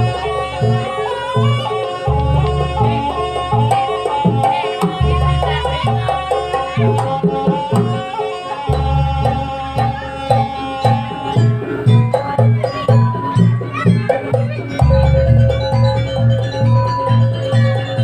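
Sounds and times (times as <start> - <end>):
hand drums beating: 0.0 - 18.0
sliding melody: 0.0 - 18.0.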